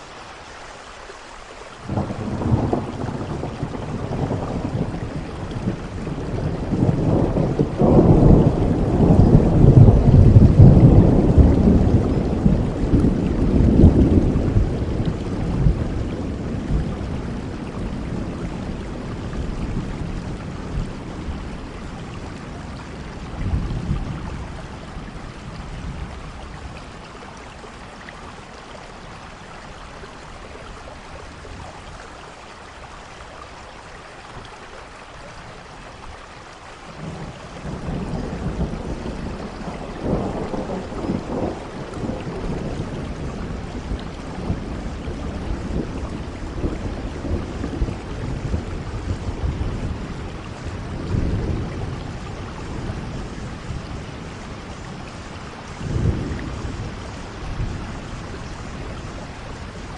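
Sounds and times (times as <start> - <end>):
steady rain falling: 0.0 - 59.9
rolling thunder: 1.8 - 26.9, 36.9 - 59.9.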